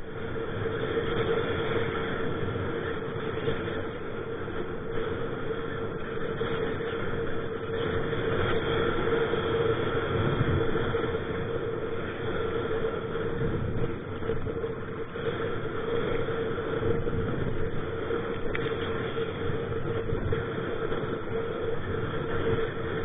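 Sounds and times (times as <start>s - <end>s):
constant hum: 0.0s - 23.0s
wind buffeting microphone: 0.0s - 23.0s.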